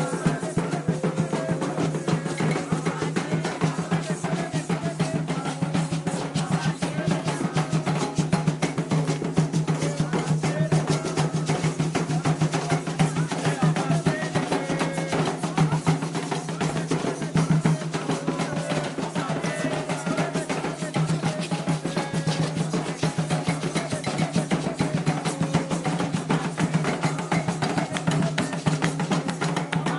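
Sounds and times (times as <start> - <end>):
hand drums fast rhythm: 0.0 - 29.9.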